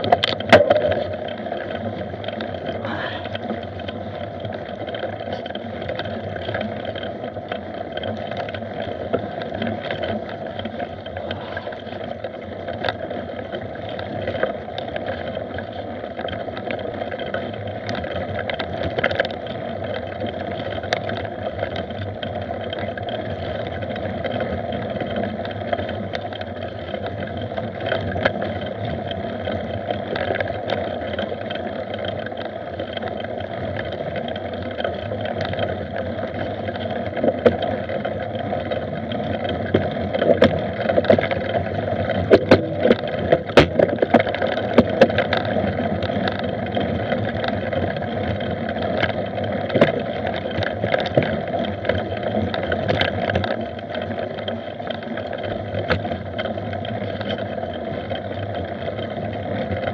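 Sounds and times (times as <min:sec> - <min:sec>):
bike rattling over bumps: 0:00.0 - 0:59.9
wind and tyre noise: 0:00.0 - 0:59.9.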